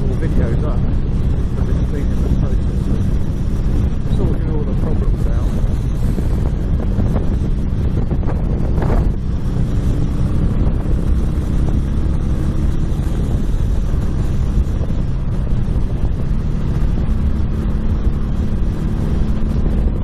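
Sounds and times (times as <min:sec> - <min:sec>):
motorcycle engine hum: 0:00.0 - 0:20.0
wind rushing on microphone: 0:00.0 - 0:20.0.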